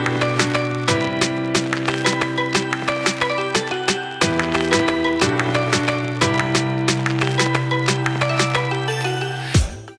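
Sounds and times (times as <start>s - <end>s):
background music with steady beat: 0.0s - 9.9s.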